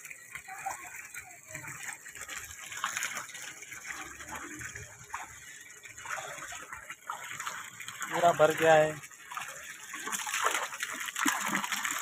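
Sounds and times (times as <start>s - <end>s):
water pouring into a tank: 0.0s - 12.0s.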